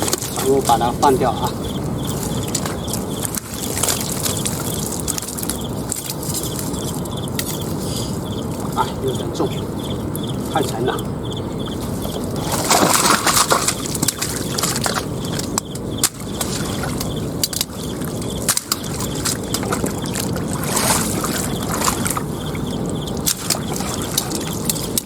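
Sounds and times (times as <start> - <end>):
water splashing: 0.0 - 7.6, 11.6 - 25.0
fish thrashing in water: 0.0 - 8.6, 11.6 - 25.0.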